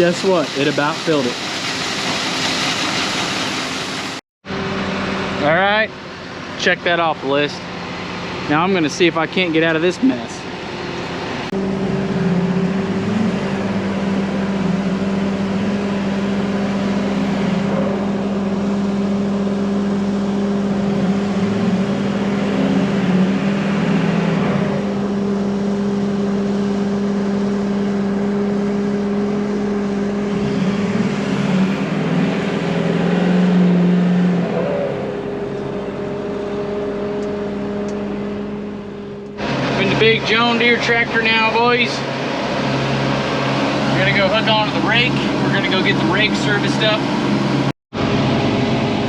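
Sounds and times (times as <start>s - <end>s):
diesel engine running under load: 3.8s - 49.0s.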